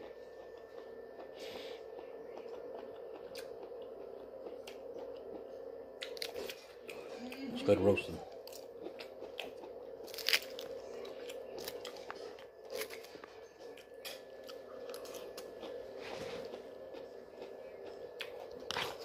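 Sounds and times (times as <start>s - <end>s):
low hum: 0.0s - 19.0s
wet crunchy chewing: 0.4s - 7.4s, 8.4s - 19.0s.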